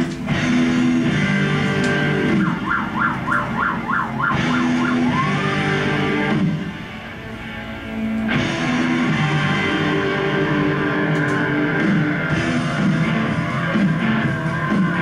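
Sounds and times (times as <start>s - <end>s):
rock music through speakers: 0.0s - 15.0s.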